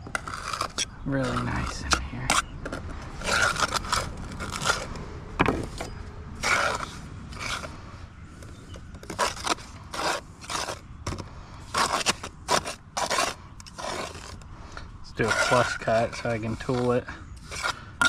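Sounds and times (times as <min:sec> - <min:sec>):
tool scraping mortar in brick joints: 0:00.0 - 0:07.8, 0:08.4 - 0:18.0.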